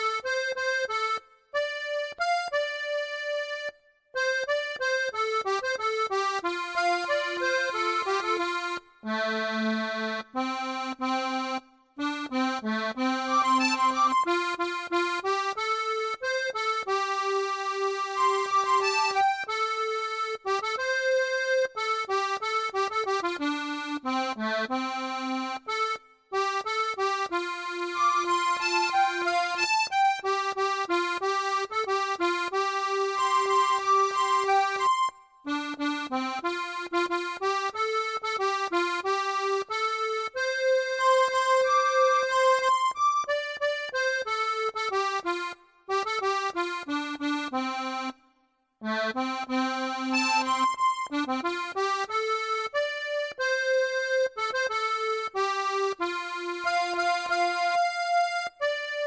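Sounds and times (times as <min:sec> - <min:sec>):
accordion playing slow melody: 0:00.0 - 0:59.0.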